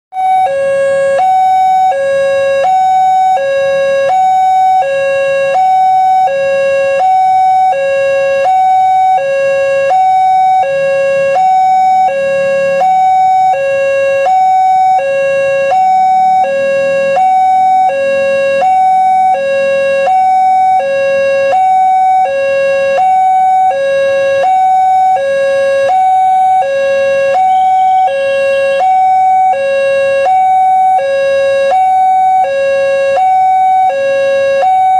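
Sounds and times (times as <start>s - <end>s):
level crossing two-tone alarm: 0.2s - 34.9s.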